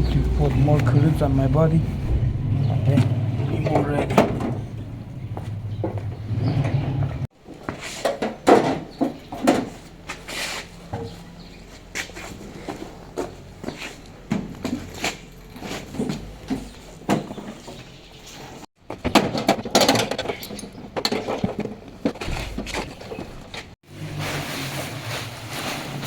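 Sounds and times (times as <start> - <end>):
knocks and rustling of handling: 0.1 - 26.0.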